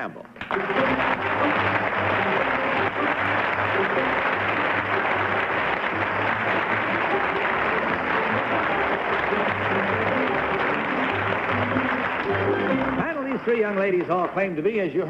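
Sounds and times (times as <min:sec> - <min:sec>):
audience applauding: 0:00.4 - 0:15.0
show music: 0:00.5 - 0:15.0.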